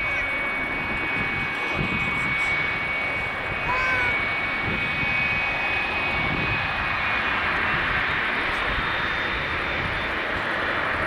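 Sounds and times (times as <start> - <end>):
high steady engine whine: 0.0 - 11.0
jet engines rumbling: 0.0 - 11.0.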